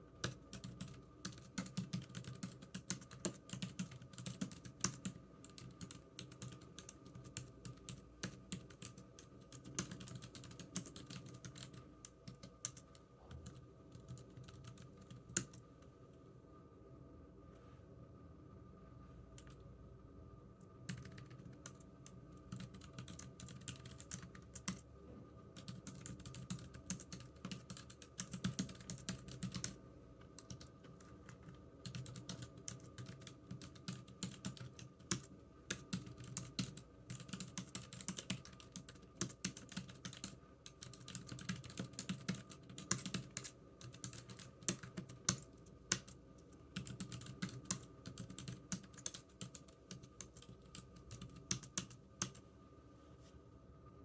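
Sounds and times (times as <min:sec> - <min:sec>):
computer keyboard typing: 0:00.2 - 0:15.6, 0:20.8 - 0:24.8, 0:25.5 - 0:52.4.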